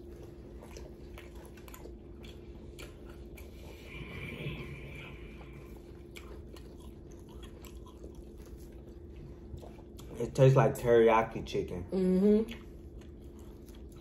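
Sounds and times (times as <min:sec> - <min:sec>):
chewing and biting: 0:00.0 - 0:10.9, 0:12.5 - 0:14.0
faint steady hum: 0:00.0 - 0:14.0.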